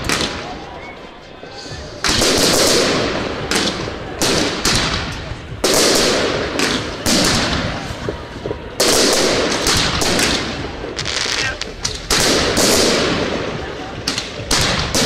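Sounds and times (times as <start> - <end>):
fireworks bursting with crackle: 0.0 - 15.0.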